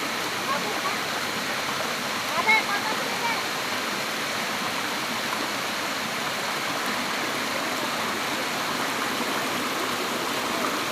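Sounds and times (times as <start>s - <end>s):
waterfall pouring and splashing: 0.0s - 10.9s.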